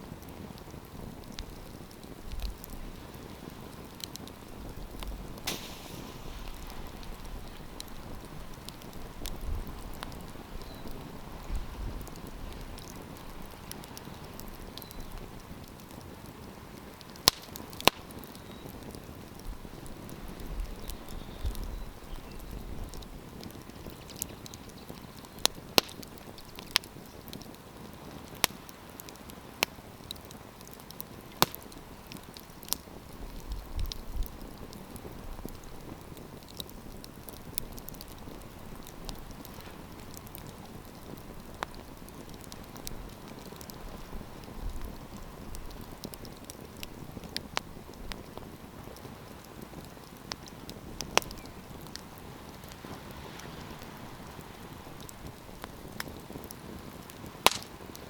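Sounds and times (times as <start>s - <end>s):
campfire crackling: 0.0s - 58.0s
fire popping and snapping: 0.0s - 58.0s.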